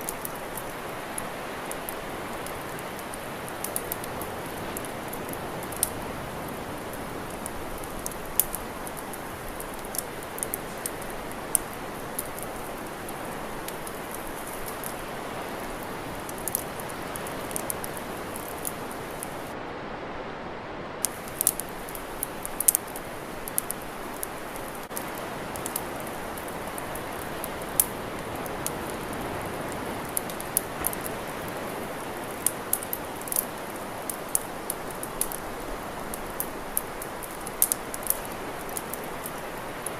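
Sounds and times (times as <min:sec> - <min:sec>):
campfire crackling and popping: 0:00.0 - 0:19.6, 0:21.0 - 0:39.9.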